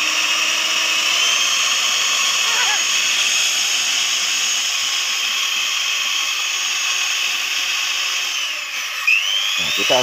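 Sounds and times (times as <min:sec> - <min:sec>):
electric hand mixer whining: 0:00.0 - 0:10.0.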